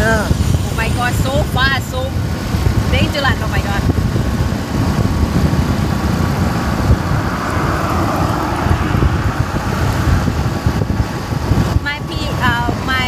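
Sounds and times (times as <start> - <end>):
motorbike road noise: 0.0 - 13.0
wind buffeting microphone: 0.0 - 13.0.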